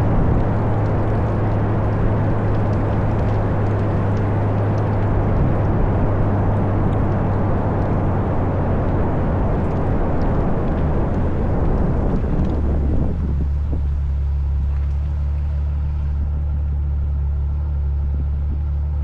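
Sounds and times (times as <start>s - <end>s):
car engine low drone: 0.0s - 19.0s
road noise: 0.0s - 19.0s.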